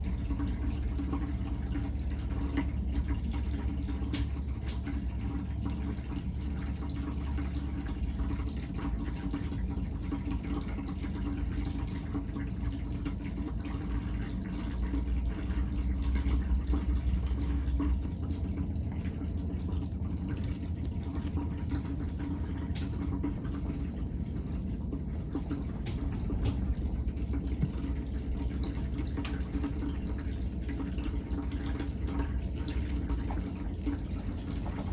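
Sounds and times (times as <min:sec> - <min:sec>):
pump hum: 0:00.0 - 0:34.9
water trickling and dripping: 0:00.0 - 0:34.9.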